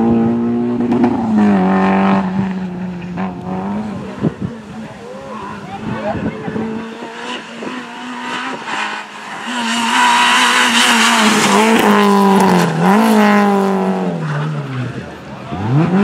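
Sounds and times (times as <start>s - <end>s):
rally car engine revving past: 0.0s - 16.0s.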